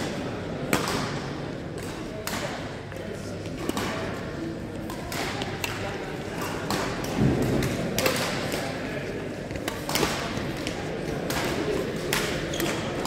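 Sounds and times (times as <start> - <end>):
murmur of voices: 0.0 - 13.0
rackets hitting shuttlecocks: 0.6 - 2.6, 3.4 - 13.0.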